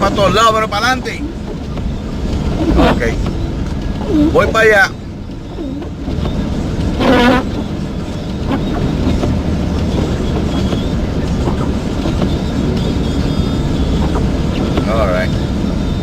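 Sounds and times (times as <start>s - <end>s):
vehicle driving on snowy highway: 0.0s - 16.0s.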